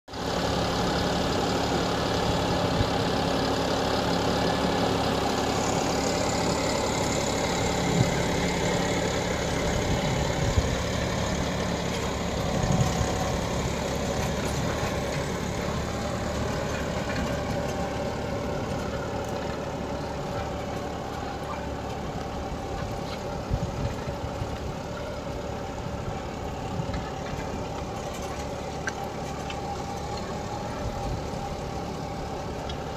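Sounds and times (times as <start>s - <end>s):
tractor diesel engine running: 0.1s - 32.9s.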